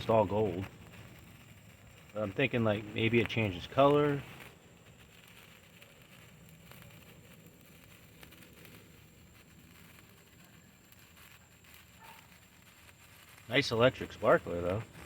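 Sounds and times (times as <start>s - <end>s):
sparkler fizzing crackle: 0.0s - 15.0s.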